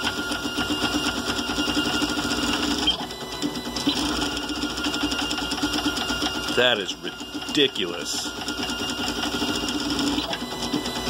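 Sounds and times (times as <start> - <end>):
printer stepper motors buzzing: 0.0 - 11.0.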